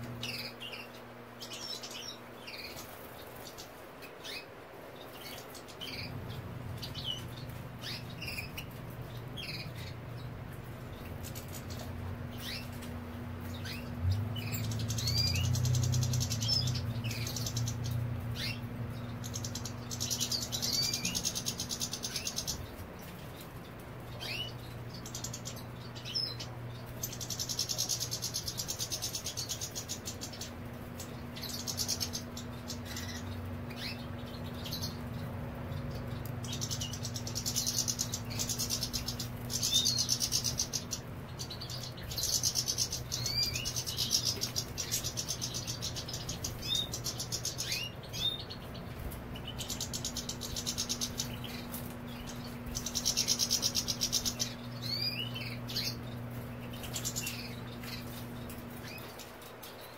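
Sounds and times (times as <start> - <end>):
faint low hum: 0.0 - 59.9
goldfinches twittering: 0.0 - 59.9.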